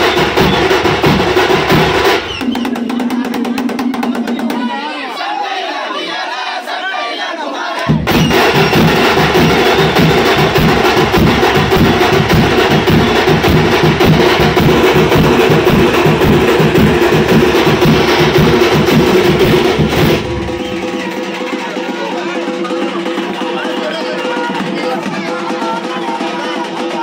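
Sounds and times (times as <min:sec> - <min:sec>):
frame drums beaten with sticks: 0:00.0 - 0:04.8, 0:07.8 - 0:27.0.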